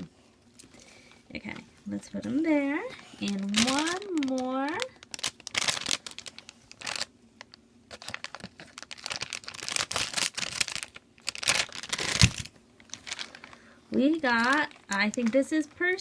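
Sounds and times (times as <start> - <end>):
plastic bag crinkling: 2.7 - 16.0.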